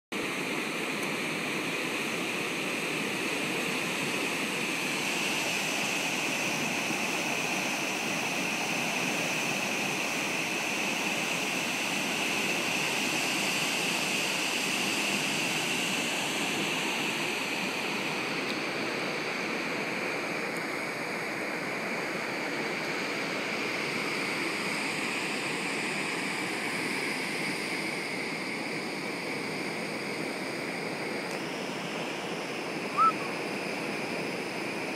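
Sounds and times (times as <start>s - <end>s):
churning water in ship wake: 0.2s - 34.9s.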